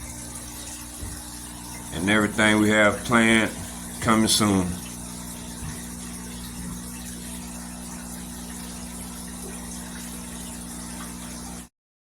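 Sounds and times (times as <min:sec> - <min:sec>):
aquarium pumps humming: 0:00.0 - 0:11.7.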